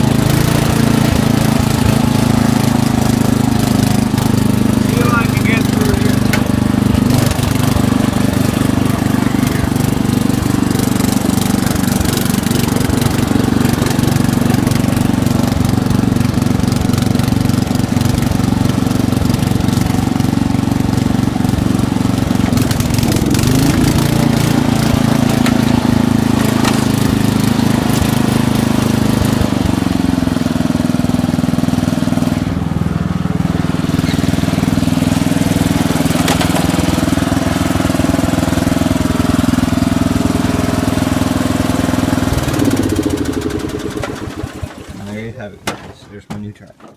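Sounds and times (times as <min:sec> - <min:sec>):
lawn tractor engine running: 0:00.0 - 0:45.9.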